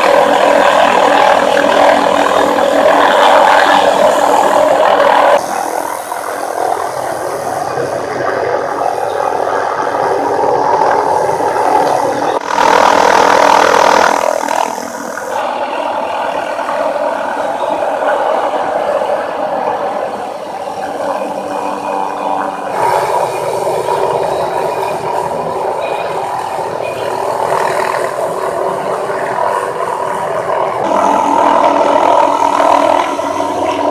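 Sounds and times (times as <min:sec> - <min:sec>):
helicopter running: 0:00.0 - 0:33.9
tree-trimming air saw: 0:00.0 - 0:33.9.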